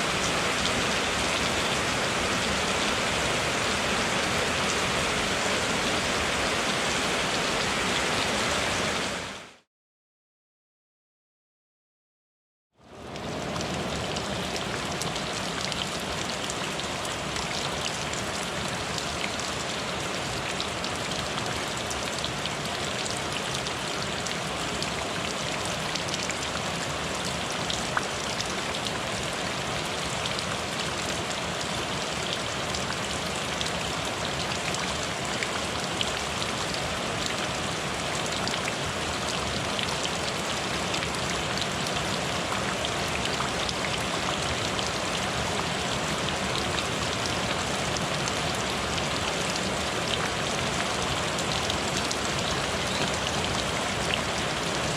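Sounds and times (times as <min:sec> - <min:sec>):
steady rain falling: 0:00.0 - 0:09.7, 0:12.8 - 0:54.9.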